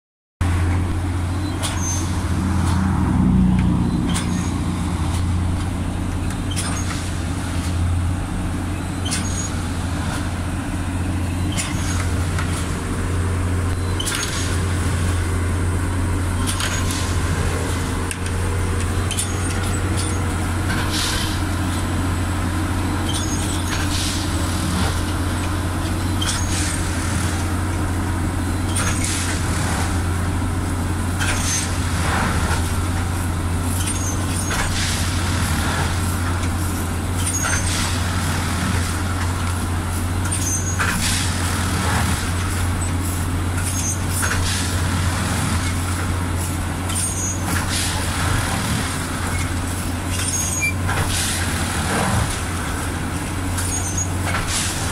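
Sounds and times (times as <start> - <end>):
diesel engine droning: 0.4 - 54.9.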